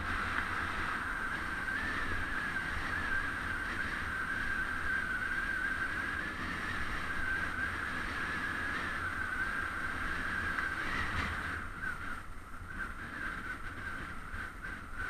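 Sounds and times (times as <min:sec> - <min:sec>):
high whine: 0:00.0 - 0:15.0
wind and road rumbling: 0:00.0 - 0:15.0.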